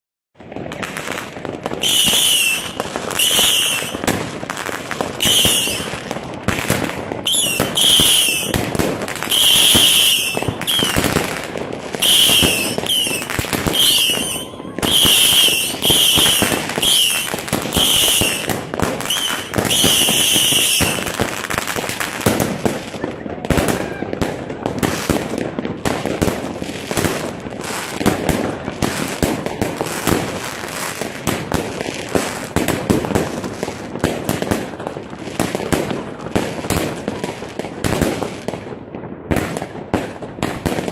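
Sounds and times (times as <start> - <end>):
fireworks bangs and crackles: 0.4 - 40.9
fireworks whistling: 0.5 - 38.6.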